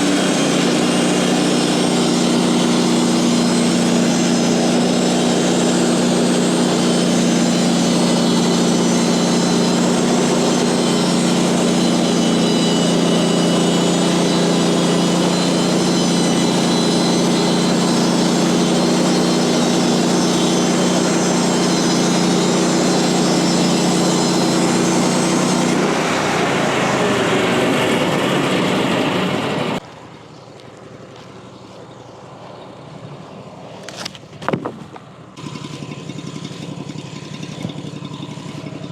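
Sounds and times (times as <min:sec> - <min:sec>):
engine running at high revs: 0:00.0 - 0:38.9.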